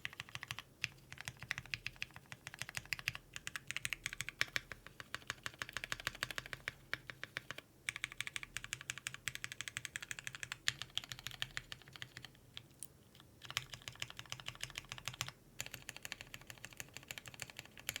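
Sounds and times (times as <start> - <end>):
fast typing on mechanical keyboard: 0.0 - 12.4, 13.4 - 18.0.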